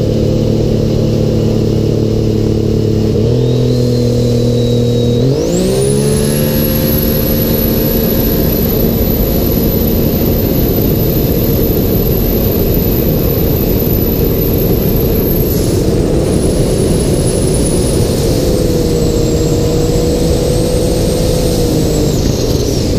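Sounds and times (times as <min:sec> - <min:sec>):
high turbo whine: 0:00.0 - 0:22.9
jet ski engine at full throttle: 0:00.0 - 0:22.9.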